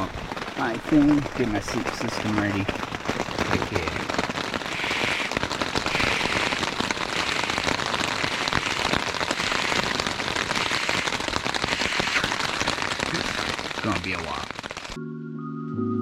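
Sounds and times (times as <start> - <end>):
rain drops hitting a surface: 0.0 - 15.0.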